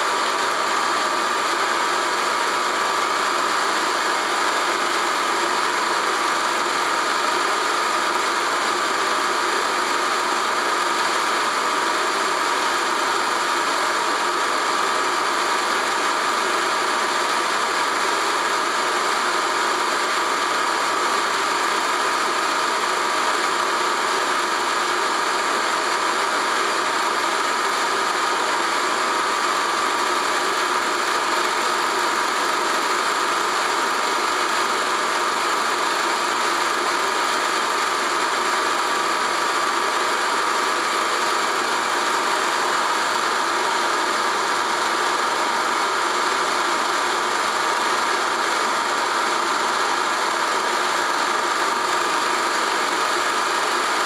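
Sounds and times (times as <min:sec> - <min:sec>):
film projector whirring and rattling: 0:00.0 - 0:54.0.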